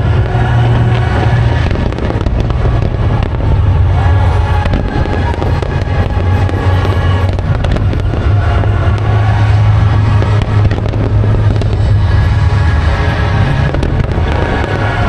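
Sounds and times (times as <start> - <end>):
fireworks booming: 0.0 - 15.0
fireworks crackling: 0.0 - 15.0
music playing: 0.0 - 15.0.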